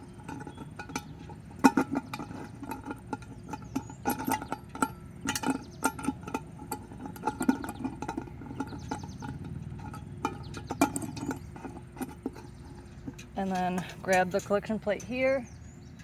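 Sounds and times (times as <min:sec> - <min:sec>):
metal parts clinking and knocking: 0:00.0 - 0:15.2.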